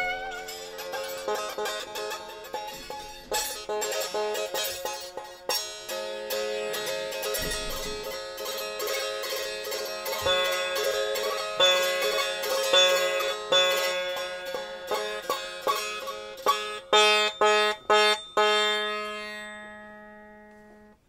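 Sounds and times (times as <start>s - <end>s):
plucked string instrument notes: 0.0s - 21.0s.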